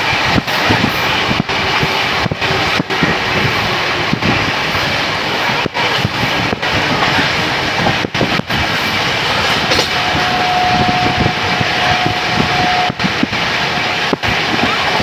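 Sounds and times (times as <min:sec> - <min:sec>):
steady high tone: 0:00.0 - 0:15.0
train rumbling on rails: 0:00.0 - 0:15.0.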